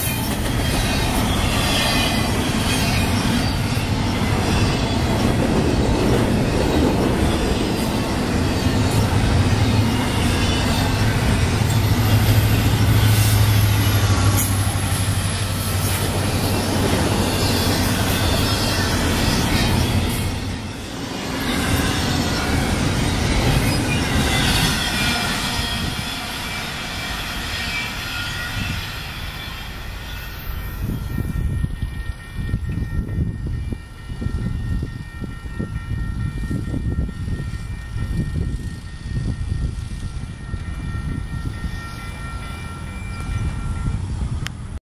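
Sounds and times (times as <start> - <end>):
diesel locomotive engine drone: 0.0 - 44.8
train cars rolling on rails: 0.0 - 44.8.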